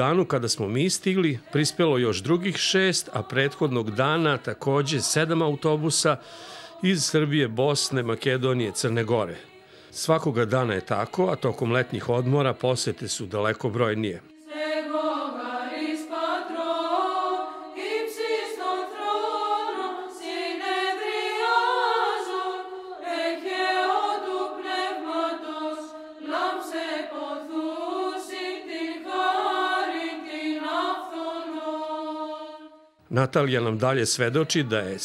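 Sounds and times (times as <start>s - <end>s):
church choir chanting a hymn: 0.0s - 35.0s.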